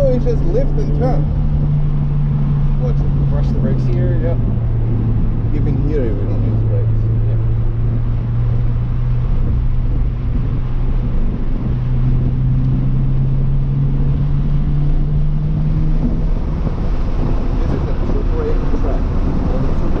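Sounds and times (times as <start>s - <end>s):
car engine revving: 0.0s - 20.0s
road and wind noise: 0.0s - 20.0s.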